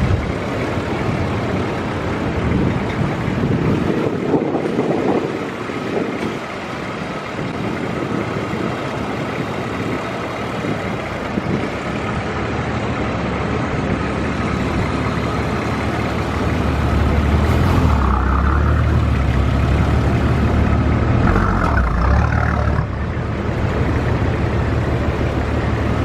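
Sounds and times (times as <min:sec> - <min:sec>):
vehicle engine running: 0:00.0 - 0:26.0
wind: 0:00.0 - 0:26.0.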